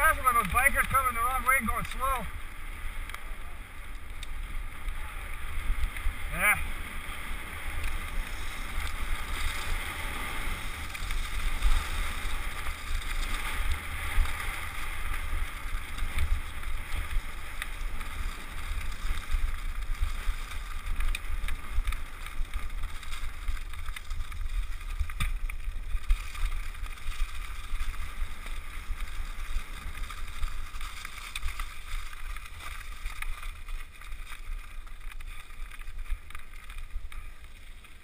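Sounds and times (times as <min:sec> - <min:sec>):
small clicks and ticks: 0:00.0 - 0:38.0
tyres rolling on gravel: 0:00.0 - 0:38.0
wind rumbling on microphone: 0:00.0 - 0:38.0.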